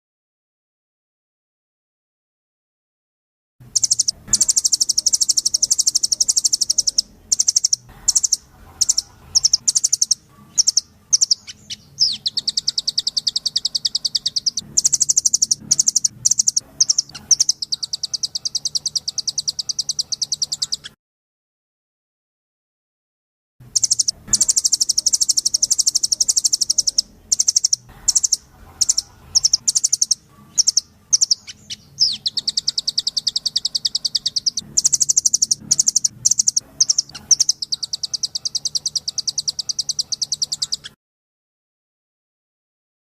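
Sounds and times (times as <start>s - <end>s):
songbird buzzy trills: 3.6s - 21.0s, 23.6s - 41.0s.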